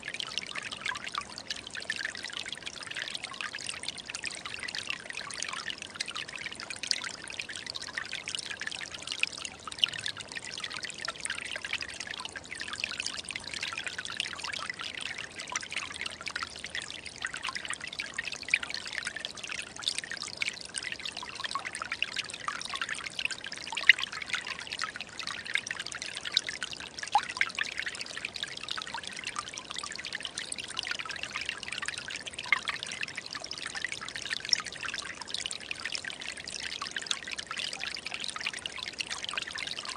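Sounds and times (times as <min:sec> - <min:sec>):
forest stream trickling and splashing: 0:00.0 - 0:39.9.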